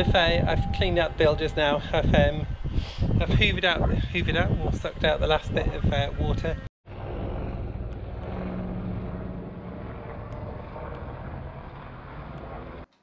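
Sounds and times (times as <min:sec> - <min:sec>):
aircraft engine drone: 0:00.0 - 0:12.9.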